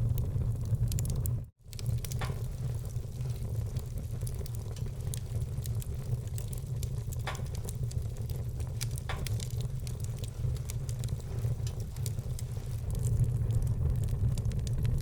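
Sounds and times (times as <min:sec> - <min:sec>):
fire pops: 0:00.0 - 0:15.0
low rumble: 0:00.0 - 0:15.0
wood fire crackling: 0:00.0 - 0:15.0.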